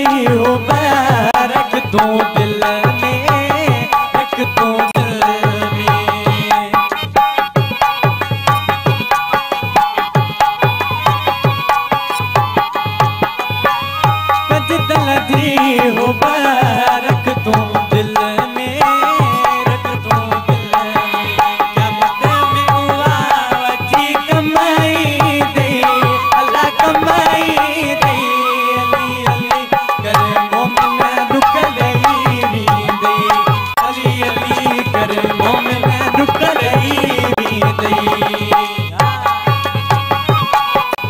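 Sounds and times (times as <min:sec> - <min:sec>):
man singing: 0:00.0 - 0:41.0.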